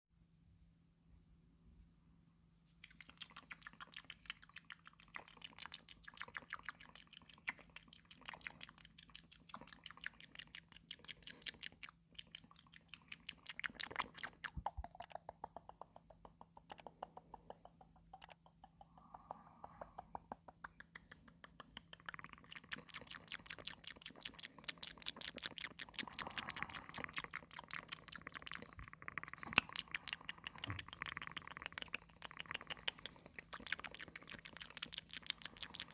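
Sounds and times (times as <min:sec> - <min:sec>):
wet mouth clicks and smacks: 0:02.8 - 0:35.9.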